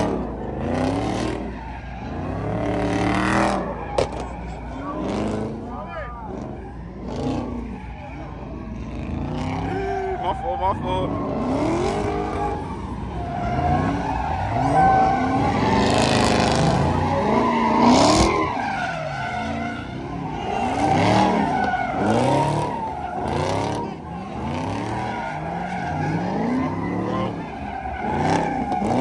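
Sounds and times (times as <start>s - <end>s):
car engine revving: 0.0s - 29.0s
tyres squealing and skidding: 0.0s - 29.0s.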